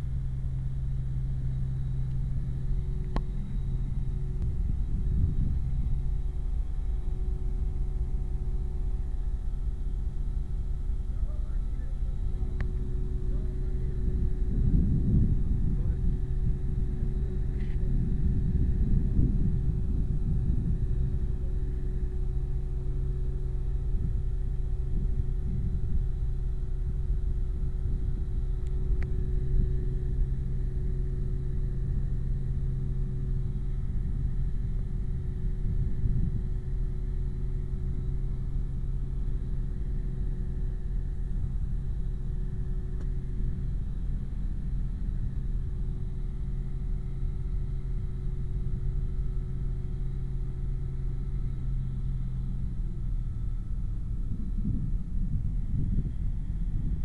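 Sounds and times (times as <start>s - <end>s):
idling locomotive rumble: 0.0s - 57.0s.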